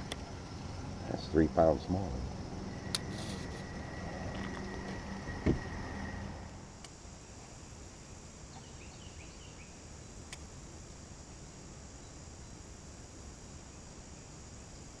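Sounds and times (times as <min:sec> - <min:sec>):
low hiss and rumble: 0:00.0 - 0:15.0.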